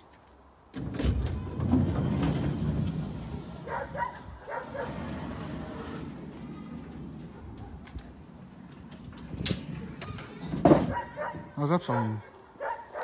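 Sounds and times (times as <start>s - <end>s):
metal garage door rattling open: 0.7s - 11.5s.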